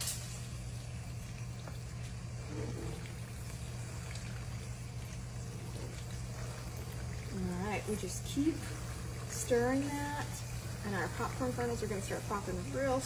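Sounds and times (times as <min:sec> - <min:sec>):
butter and caramel bubbling: 0:00.0 - 0:13.0
steady low hum: 0:00.0 - 0:13.0.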